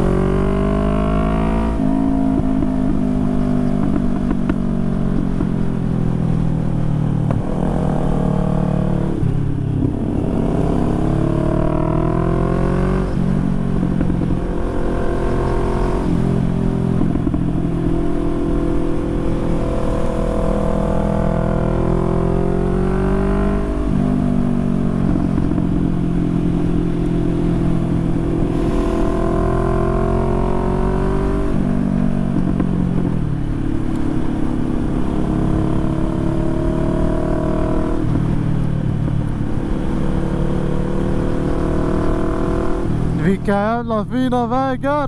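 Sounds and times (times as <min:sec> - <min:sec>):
motorcycle engine revving: 0:00.0 - 0:44.6
low wind rumble: 0:00.0 - 0:44.9.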